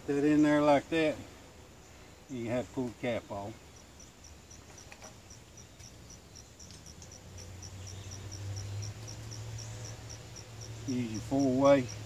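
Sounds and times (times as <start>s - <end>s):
cricket chirping: 0.4s - 12.0s.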